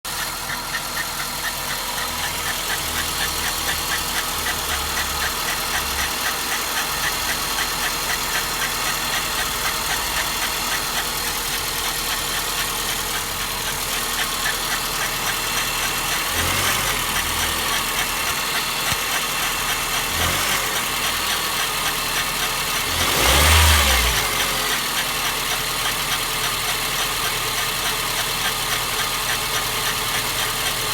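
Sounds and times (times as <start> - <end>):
car engine idling and revving: 0.0 - 30.9
fast repeating high tick: 0.1 - 30.9.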